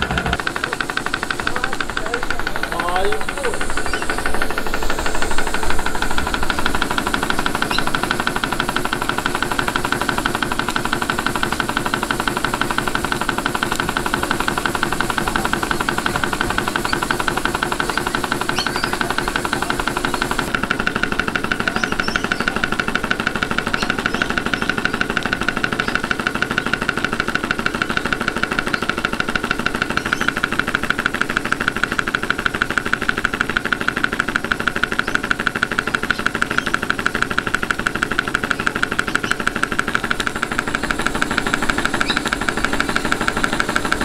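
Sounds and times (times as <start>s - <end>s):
model steam engine exhaust beating: 0.0s - 44.0s.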